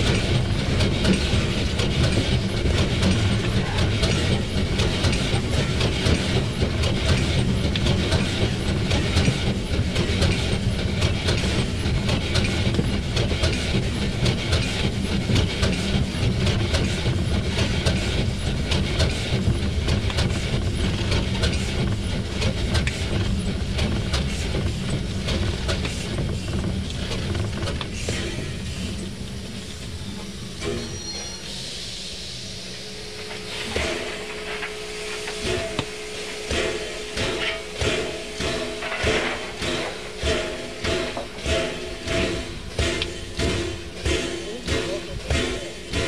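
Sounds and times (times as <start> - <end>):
train wheels clattering over rails: 0.0 - 31.4, 33.1 - 46.0
locomotive running noise: 0.0 - 46.0.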